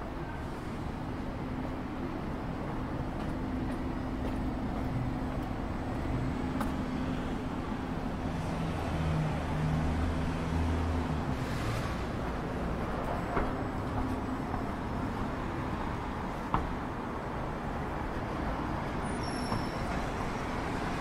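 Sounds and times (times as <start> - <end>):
steady traffic hum: 0.0 - 21.0.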